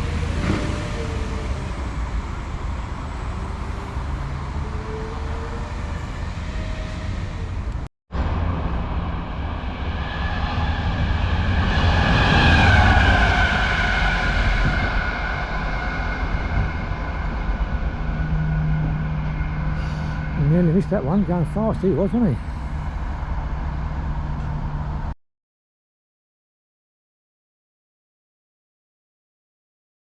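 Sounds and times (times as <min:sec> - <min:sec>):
vehicle rumble with wavering tone: 0:00.0 - 0:13.4, 0:14.1 - 0:25.2
fast train passing: 0:00.0 - 0:25.1.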